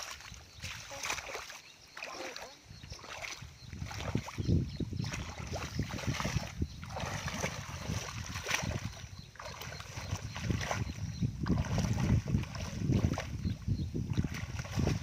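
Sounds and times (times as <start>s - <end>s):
wind buffeting microphone: 2.4s - 15.0s.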